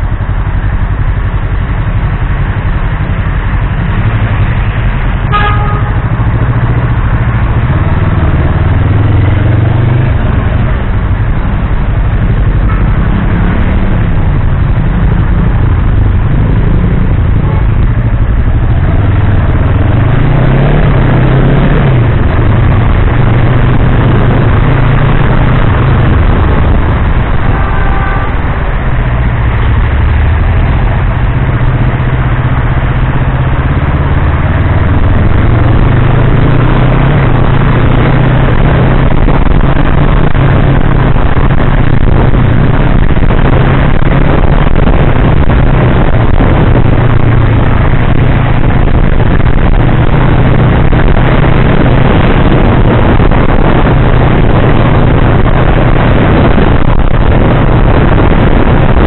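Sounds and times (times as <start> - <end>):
motorcycle engine: 0.0 - 59.0
wet road noise: 0.0 - 59.0
wind rushing: 2.0 - 59.0.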